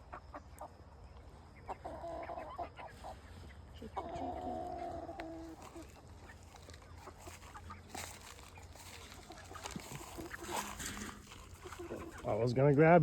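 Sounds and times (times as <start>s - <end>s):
hens clucking: 0.0s - 12.6s.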